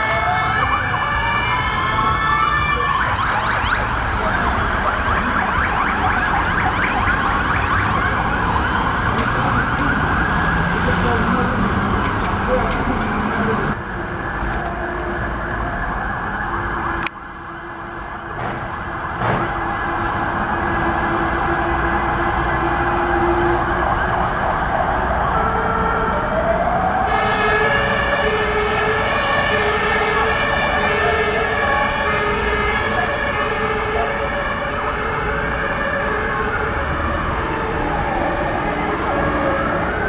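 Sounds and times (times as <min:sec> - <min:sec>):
two-tone alternating siren: 0:00.0 - 0:11.3, 0:18.9 - 0:40.0
fire engine sirens wailing: 0:00.0 - 0:40.0
heavy vehicles and traffic: 0:00.0 - 0:40.0.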